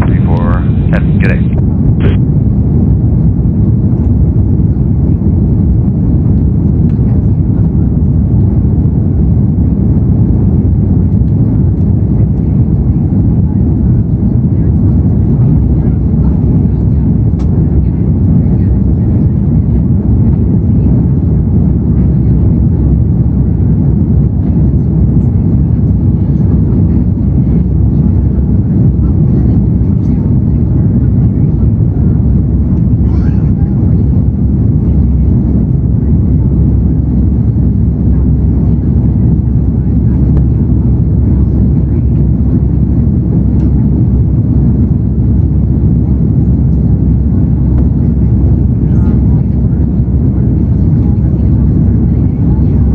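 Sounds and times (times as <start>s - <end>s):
jet engines deep rumble: 0.0s - 52.9s.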